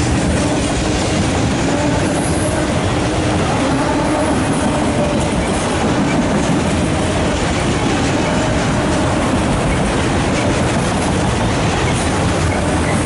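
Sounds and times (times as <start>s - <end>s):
freight train rumbling past: 0.0s - 13.0s
train wheels clattering on rails: 0.0s - 13.0s.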